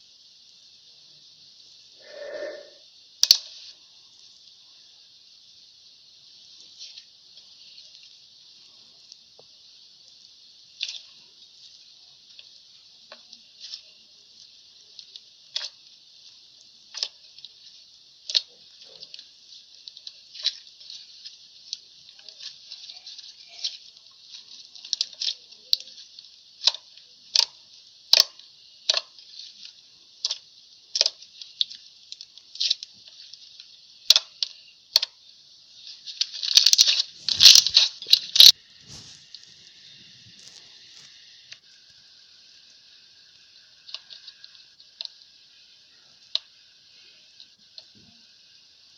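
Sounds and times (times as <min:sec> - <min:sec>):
steady hiss: 0:00.0 - 0:48.9.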